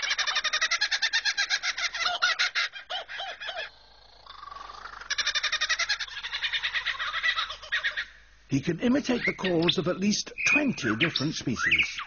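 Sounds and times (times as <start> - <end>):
kookaburra laughing call: 0.0 - 8.2, 9.0 - 12.0.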